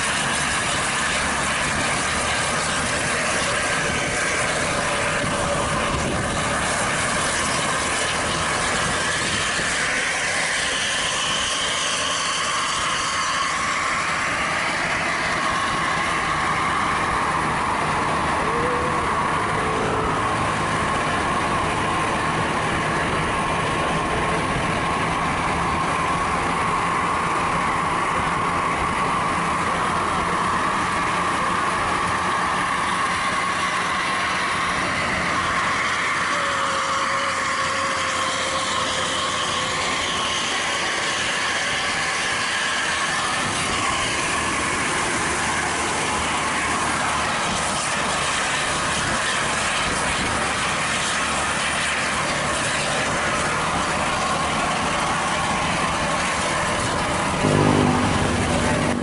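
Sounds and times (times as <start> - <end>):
steady whine: 0.0 - 59.0
vehicle engine and road noise: 0.0 - 59.0.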